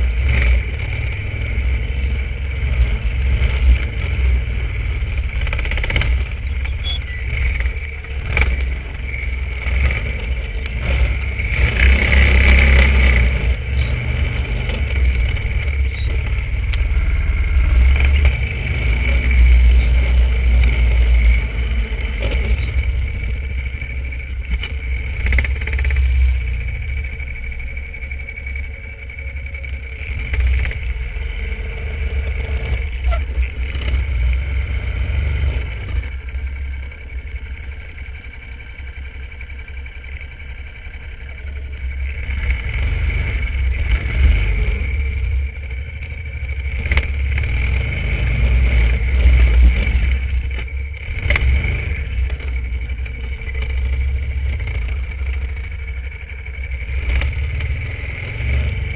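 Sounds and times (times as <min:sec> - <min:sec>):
snowmobile engine running: 0:00.0 - 0:58.9.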